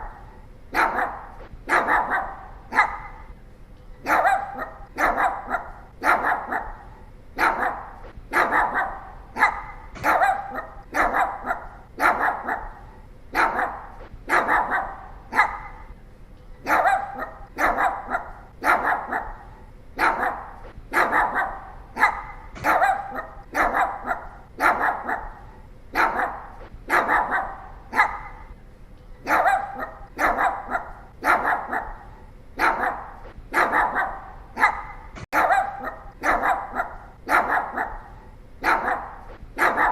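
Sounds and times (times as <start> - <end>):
small dog barking: 0.0 - 3.3, 4.0 - 15.9, 16.6 - 28.6, 29.2 - 39.9.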